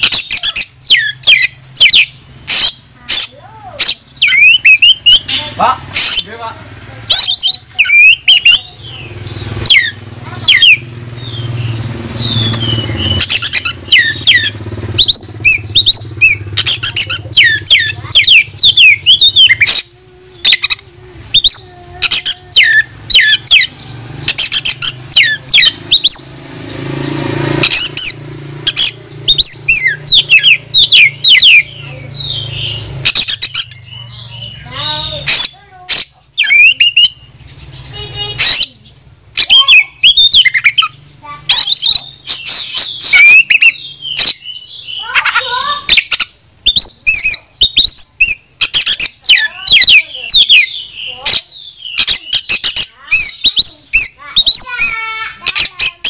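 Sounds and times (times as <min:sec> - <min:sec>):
bird singing loudly: 0:00.0 - 0:56.0.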